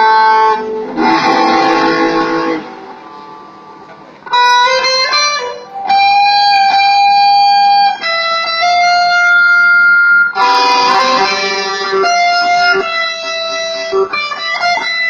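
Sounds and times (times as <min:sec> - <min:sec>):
electric guitar solo: 0:00.0 - 0:15.0.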